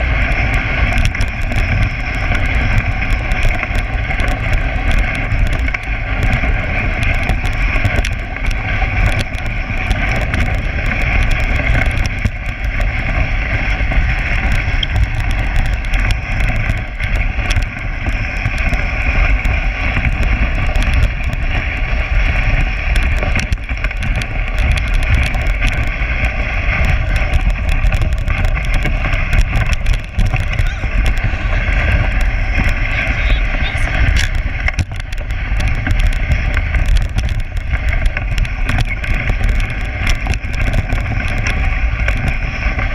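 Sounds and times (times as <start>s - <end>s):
sled knocking and rattling: 0.0s - 42.9s
sled runners scraping on snow: 0.0s - 42.9s
wind rumbling on microphone: 0.0s - 42.9s.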